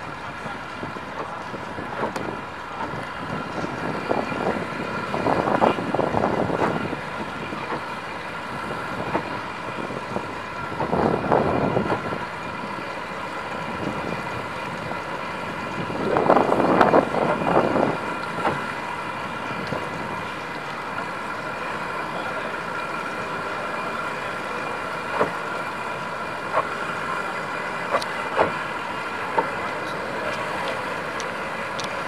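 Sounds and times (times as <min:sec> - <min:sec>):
outboard motors idling: 0:00.0 - 0:32.0.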